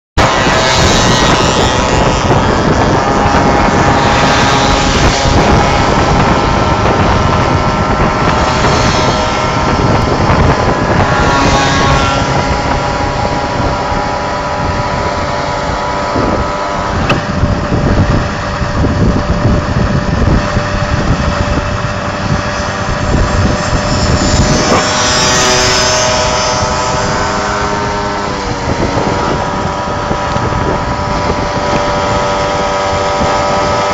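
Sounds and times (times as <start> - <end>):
moped engines running: 0.2 - 33.9
wind rushing over microphone: 0.2 - 33.9.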